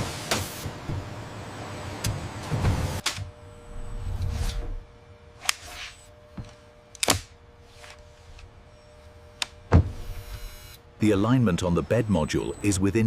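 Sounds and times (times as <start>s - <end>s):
faint steady hum: 0.6s - 13.0s.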